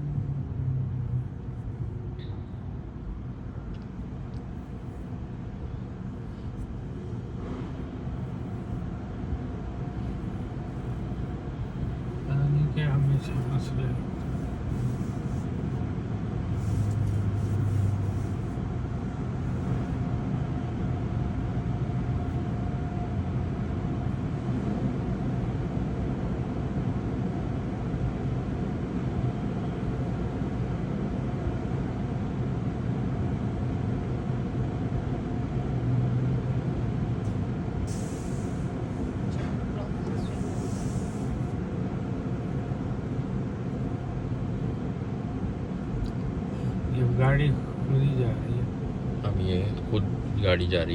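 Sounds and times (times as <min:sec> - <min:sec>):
car wash machinery rumble: 0:00.0 - 0:50.9
faint steady whine: 0:00.0 - 0:50.9.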